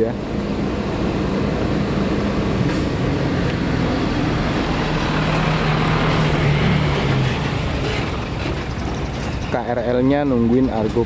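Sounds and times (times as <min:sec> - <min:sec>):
low engine drone: 0:00.0 - 0:11.0
traffic rumble: 0:00.0 - 0:11.0.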